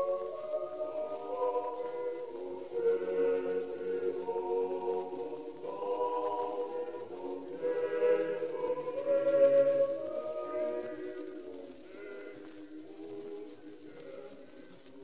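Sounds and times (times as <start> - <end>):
faint record hiss: 0.0 - 15.0
unaccompanied choir singing: 0.0 - 15.0.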